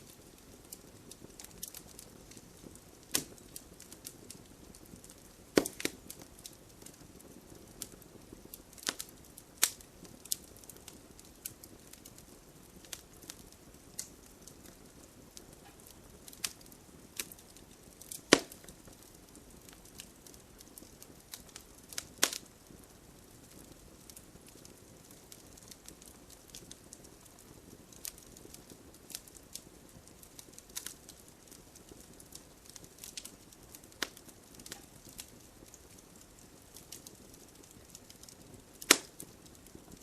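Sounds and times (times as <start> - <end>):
campfire wood crackling and popping: 0.0 - 40.0
soft steady fire hiss: 0.0 - 40.0.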